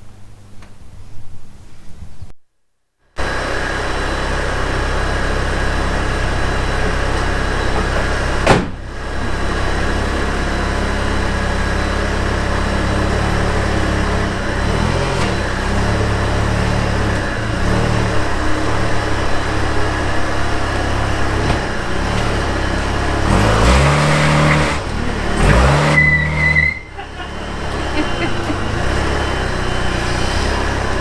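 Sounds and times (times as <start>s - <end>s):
motor running steadily: 3.2s - 31.0s.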